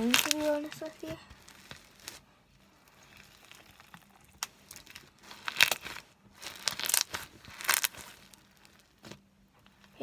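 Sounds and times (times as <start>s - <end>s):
slime crackling and squelching: 0.0s - 10.0s.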